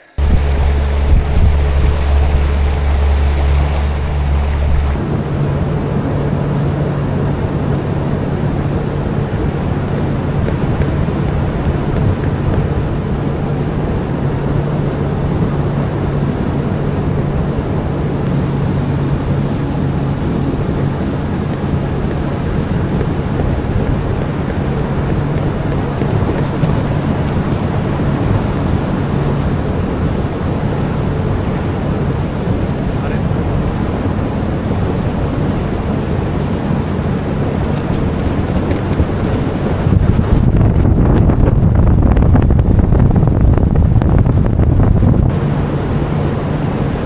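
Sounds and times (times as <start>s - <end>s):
deeper hum: 0.0s - 47.0s
engine droning: 0.0s - 47.0s
loud rushing noise: 0.0s - 47.0s.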